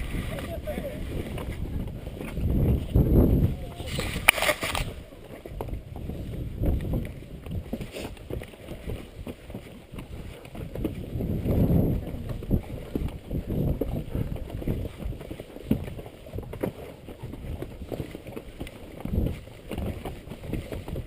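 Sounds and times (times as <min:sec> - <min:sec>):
hooves clopping on rocks: 0:00.0 - 0:21.0
wind buffeting microphone: 0:00.0 - 0:21.0.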